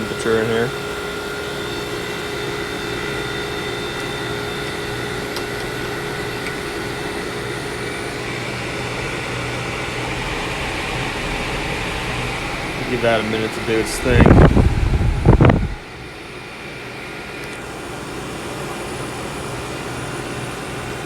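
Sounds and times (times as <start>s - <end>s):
air conditioner fan airflow: 0.0s - 21.0s
compressor hum: 0.0s - 21.0s.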